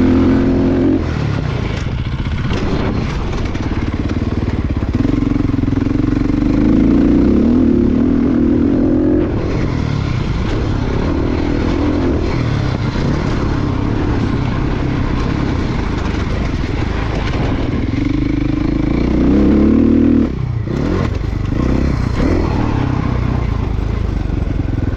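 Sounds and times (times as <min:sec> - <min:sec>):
dirt bike engine revving: 0:00.0 - 0:24.9.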